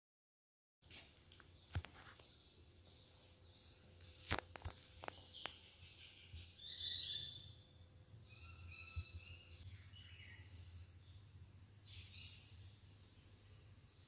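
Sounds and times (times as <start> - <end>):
faint bird chirps: 1.5 - 13.2.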